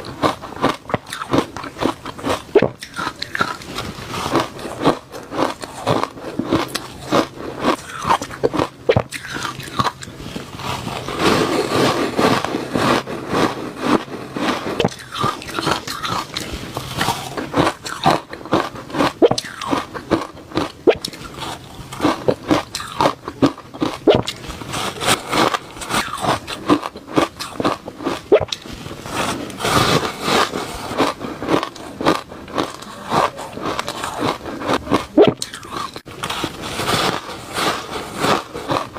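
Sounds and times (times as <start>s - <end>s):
person chewing crunchy ice: 0.0s - 38.9s.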